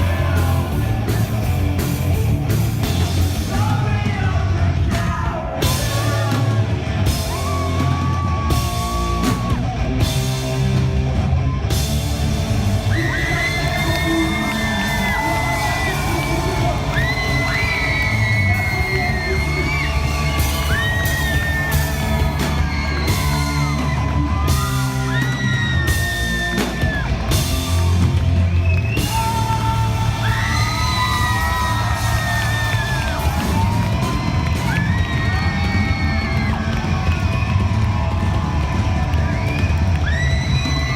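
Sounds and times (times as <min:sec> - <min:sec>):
bass guitar: 0:00.0 - 0:40.9
drum kit with cymbal crashes: 0:00.0 - 0:40.9
rock band playing live: 0:00.0 - 0:40.9.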